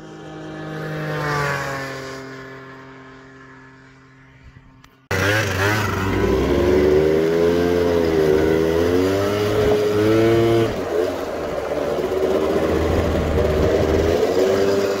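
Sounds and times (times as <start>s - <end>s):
scooter engines revving: 0.0s - 15.0s.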